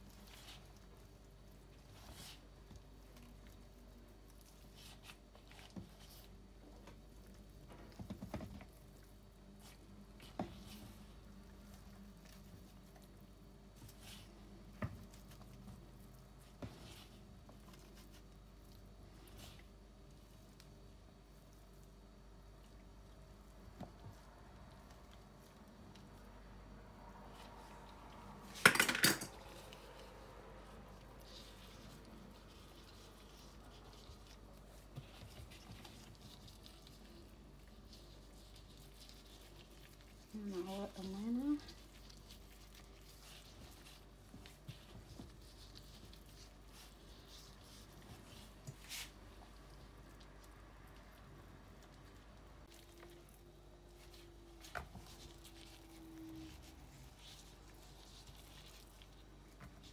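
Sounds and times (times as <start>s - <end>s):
soft rustles: 0.0s - 28.7s, 29.3s - 59.9s.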